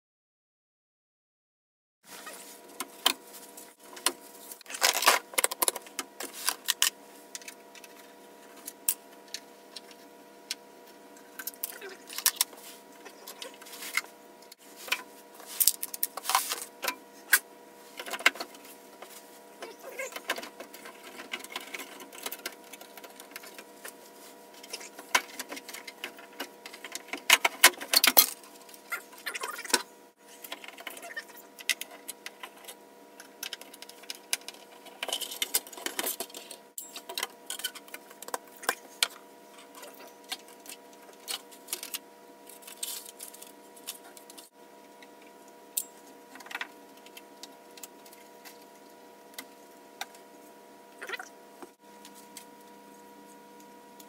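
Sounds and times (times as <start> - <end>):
faint steady whine: 2.1 - 54.0.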